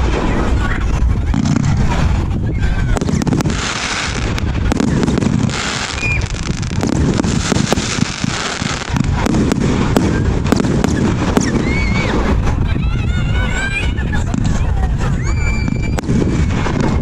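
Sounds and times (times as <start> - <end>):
firework whistle: 0.0 - 12.6, 15.0 - 17.0
fireworks bangs and crackling: 0.0 - 17.0
low rumble: 0.0 - 17.0.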